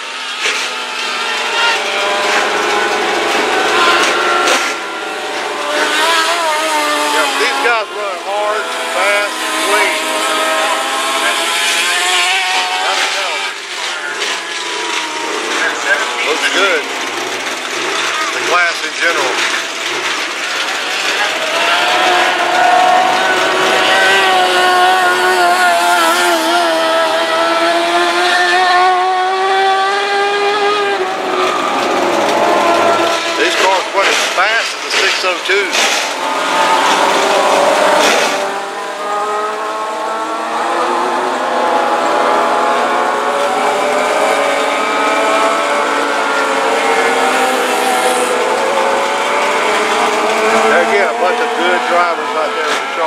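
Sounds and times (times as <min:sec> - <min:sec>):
race car engines high-revving: 0:00.0 - 0:53.0.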